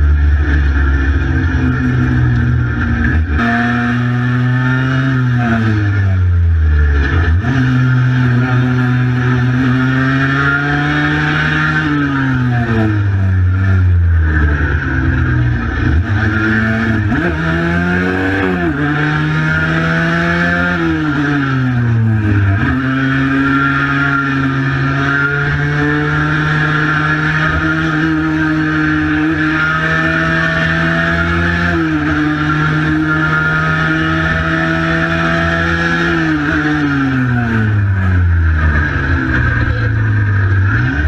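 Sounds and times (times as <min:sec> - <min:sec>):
two-stroke motorcycle engine: 0:00.0 - 0:41.0.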